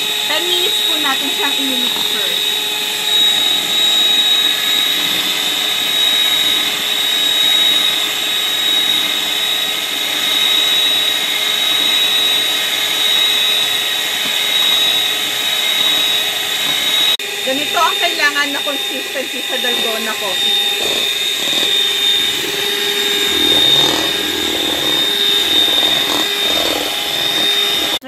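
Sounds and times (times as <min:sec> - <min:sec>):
electric hand mixer whining: 0:00.0 - 0:28.0.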